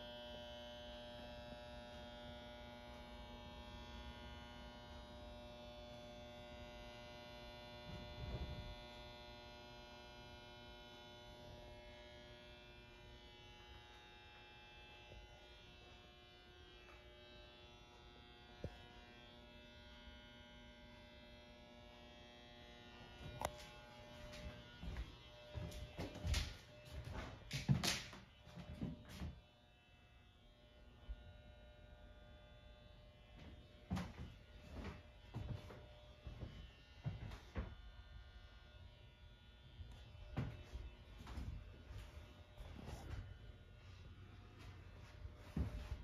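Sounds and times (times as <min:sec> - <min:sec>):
faint buzzing hum: 0:00.0 - 0:46.0.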